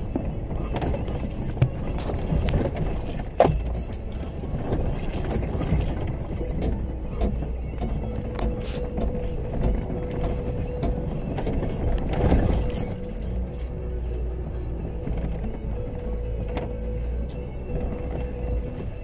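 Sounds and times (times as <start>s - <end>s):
low engine rumble: 0.0s - 19.0s
suspension knocks and clunks: 0.0s - 19.0s.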